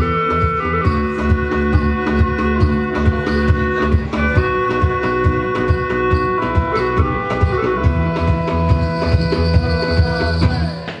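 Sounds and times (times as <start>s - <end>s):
hand drum beat: 0.0s - 11.0s
wooden wind instrument: 0.0s - 11.0s
plucked strings: 0.8s - 10.7s.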